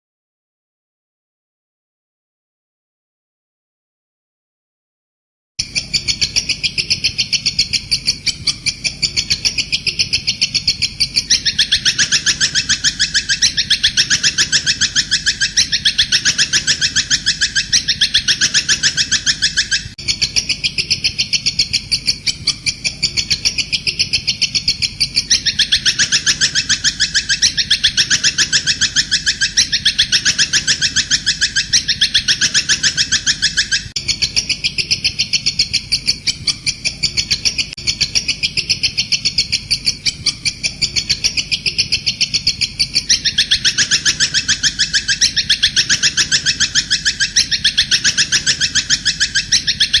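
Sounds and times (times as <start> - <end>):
rapid high bird chirps: 5.6 - 50.0.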